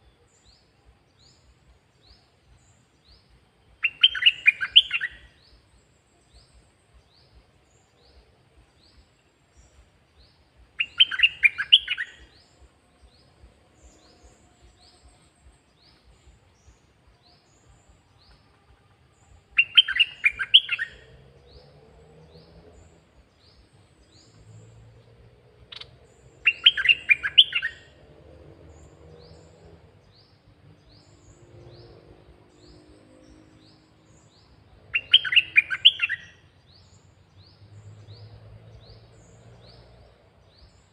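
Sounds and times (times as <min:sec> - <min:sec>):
bird song phrase: 0:00.0 - 0:40.9.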